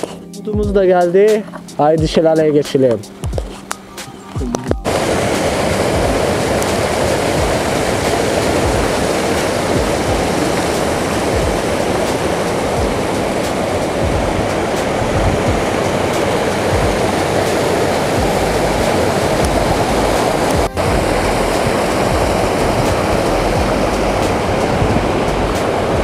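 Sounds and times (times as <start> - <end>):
music with falling low note: 3.2 - 26.0
waterfall pouring over rocks: 4.8 - 26.0.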